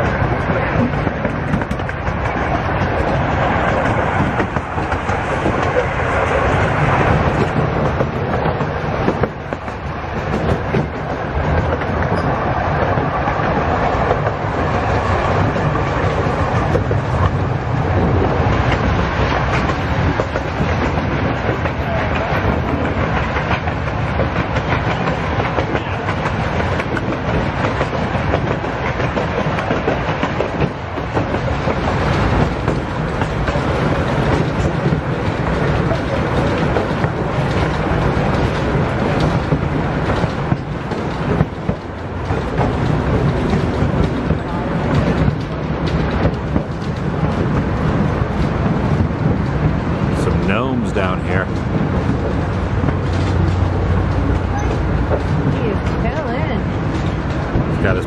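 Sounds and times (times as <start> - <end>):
miniature train rolling on track: 0.0 - 58.0.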